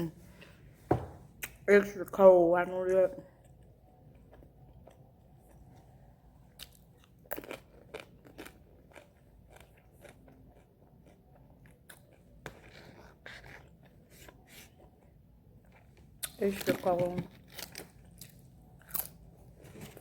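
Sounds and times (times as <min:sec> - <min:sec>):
person chewing food: 0:03.4 - 0:20.0.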